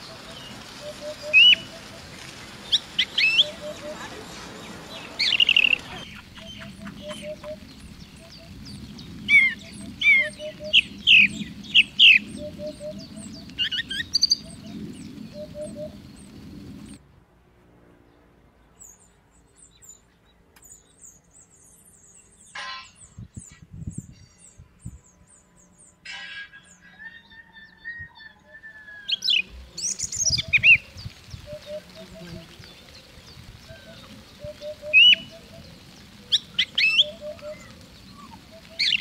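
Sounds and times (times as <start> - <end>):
background birdsong: 0.0 - 17.0, 17.9 - 39.0.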